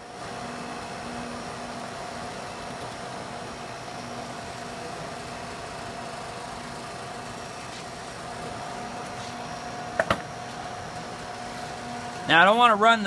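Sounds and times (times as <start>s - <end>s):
compressor humming: 0.0s - 13.0s.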